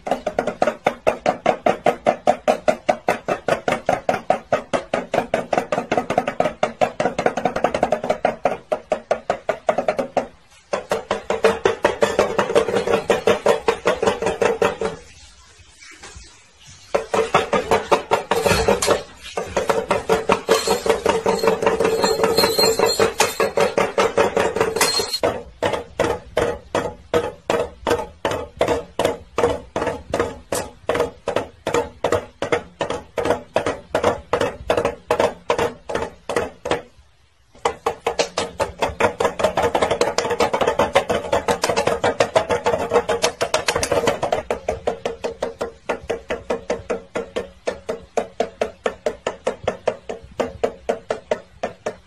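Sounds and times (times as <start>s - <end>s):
toy drum beaten with sticks: 0.0s - 15.0s, 17.0s - 37.0s, 37.6s - 52.0s.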